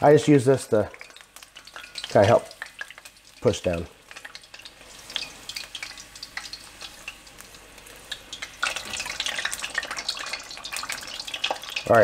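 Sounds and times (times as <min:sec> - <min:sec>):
deep-frying oil crackling: 0:00.0 - 0:12.0.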